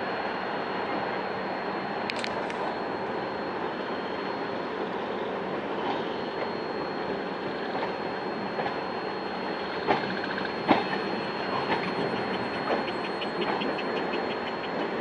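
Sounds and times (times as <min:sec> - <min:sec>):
faint high whine: 0:00.0 - 0:15.0
train wheels on rails: 0:02.1 - 0:15.0.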